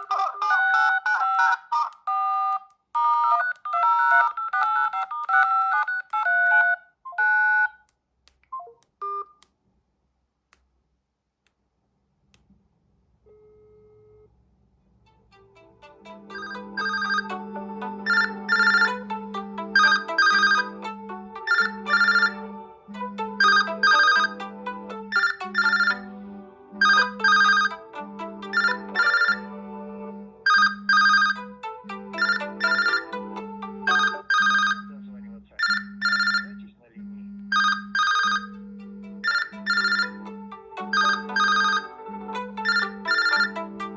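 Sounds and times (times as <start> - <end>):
phone ringtone melody: 0.0 - 7.8, 15.1 - 35.0, 35.6 - 36.7, 37.5 - 43.9.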